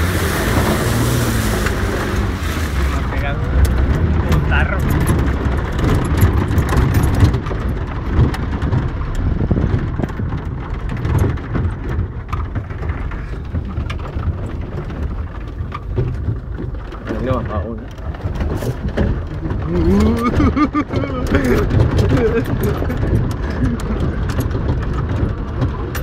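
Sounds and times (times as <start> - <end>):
car body knocking and rattling: 0.0 - 26.0
engine and tyre rumble: 0.0 - 26.0.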